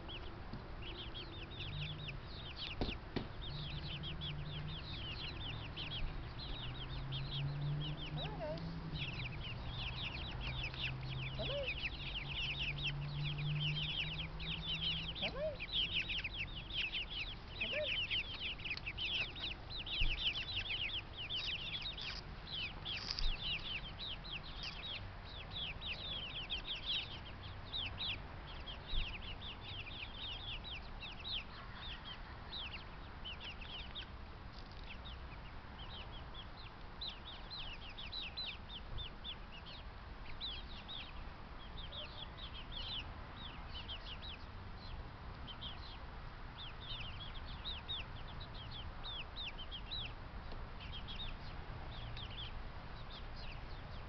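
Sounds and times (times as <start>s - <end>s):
poultry chirping: 0.0s - 54.0s.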